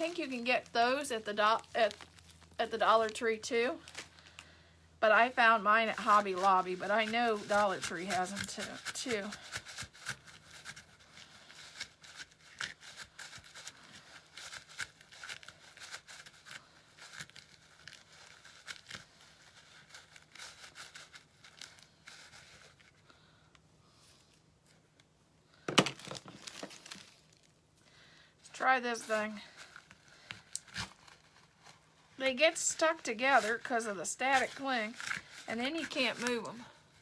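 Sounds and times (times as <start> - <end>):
loud tearing crinkle: 0.0 - 4.5, 5.8 - 23.0, 25.8 - 27.6, 29.3 - 31.9, 32.8 - 37.0
crafting materials crinkling: 0.0 - 23.2, 25.7 - 27.7, 28.5 - 37.0
faint steady hum: 0.0 - 37.0.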